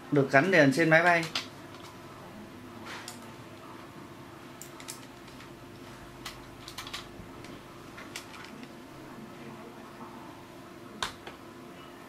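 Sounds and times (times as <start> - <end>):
low steady hum: 1.2 - 12.0.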